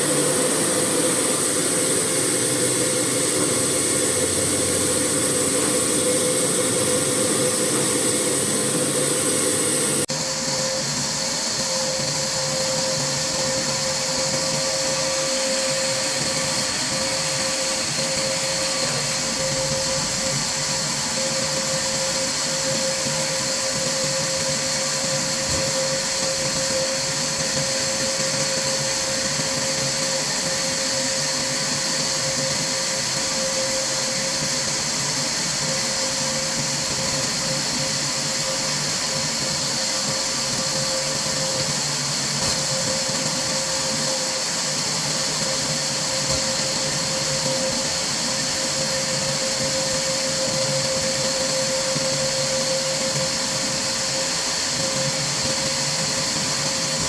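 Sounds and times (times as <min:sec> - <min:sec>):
machine whirring and humming: 0:00.0 - 0:57.0.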